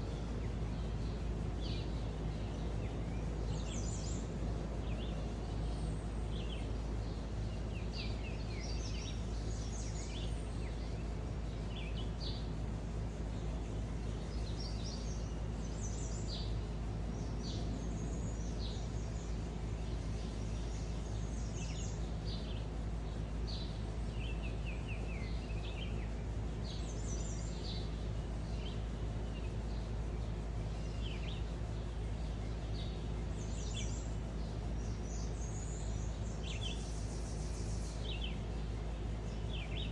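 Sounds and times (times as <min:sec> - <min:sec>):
songbirds chirping and singing: 0:00.0 - 0:39.9
steady low hum: 0:00.0 - 0:39.9.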